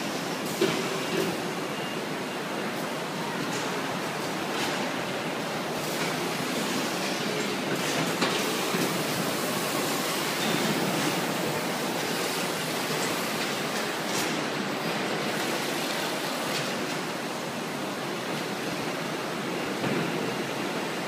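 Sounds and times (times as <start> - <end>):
factory machinery noise: 0.0 - 21.0.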